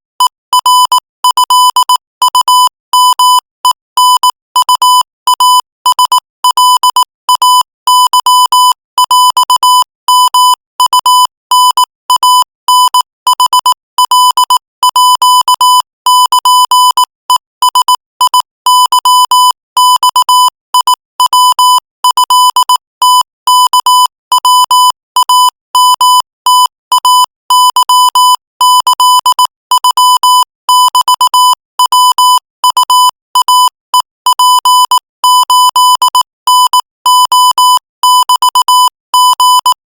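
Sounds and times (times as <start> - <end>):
morse code beeps: 0.2 - 39.8.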